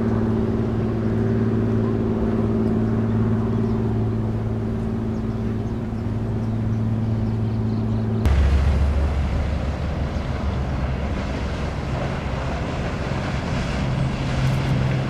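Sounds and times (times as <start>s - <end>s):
deep loud rumble: 0.0s - 15.0s
ship diesel engine drone: 0.0s - 15.0s.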